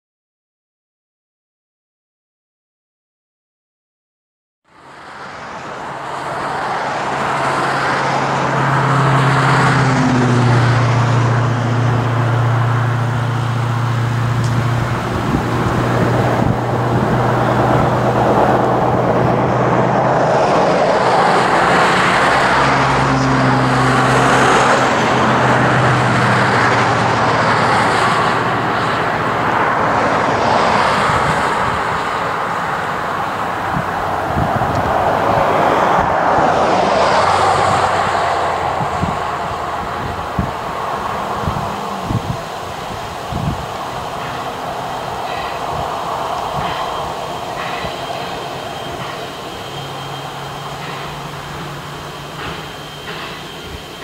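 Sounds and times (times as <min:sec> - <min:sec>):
highway traffic passing: 0:04.7 - 0:54.0
low engine hum: 0:04.7 - 0:54.0
steam locomotive approaching: 0:04.7 - 0:54.0.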